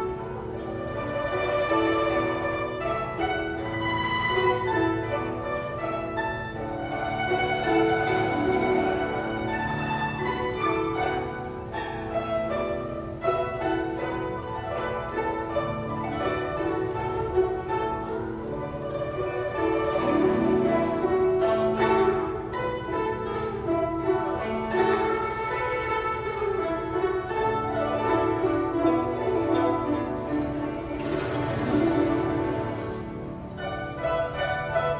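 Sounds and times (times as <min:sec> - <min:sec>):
plucked zithers playing melody: 0:00.0 - 0:34.9.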